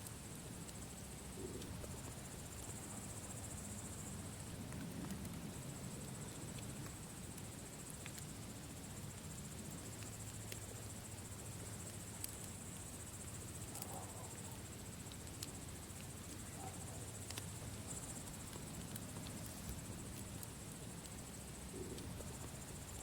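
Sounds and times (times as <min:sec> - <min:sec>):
campfire crackling and popping: 0:00.0 - 0:23.0
crickets chirring: 0:00.0 - 0:23.0
low rumble of fire: 0:00.0 - 0:23.0.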